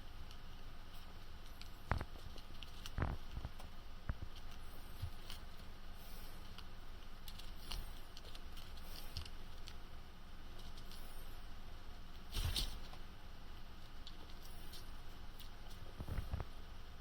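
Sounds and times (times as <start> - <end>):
guinea pigs chewing and crunching: 0.0 - 17.0.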